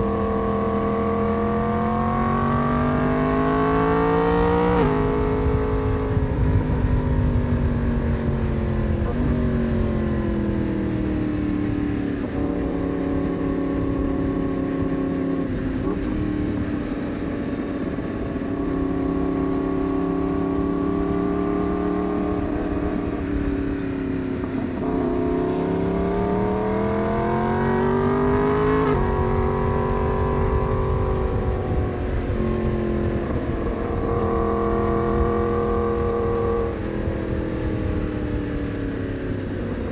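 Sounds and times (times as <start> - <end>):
motorcycle engine revving: 0.0 - 39.9
wind rush: 4.2 - 10.5, 12.6 - 39.9.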